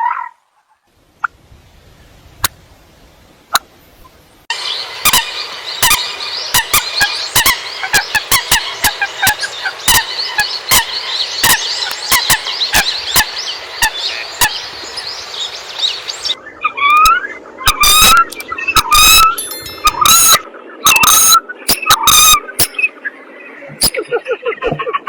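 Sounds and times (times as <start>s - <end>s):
flock of coots calling: 3.5s - 25.0s.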